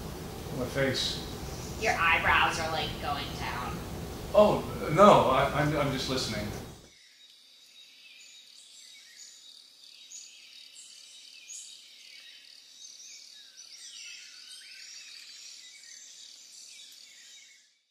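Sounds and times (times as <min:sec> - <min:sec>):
birds chirping: 0:00.0 - 0:17.6.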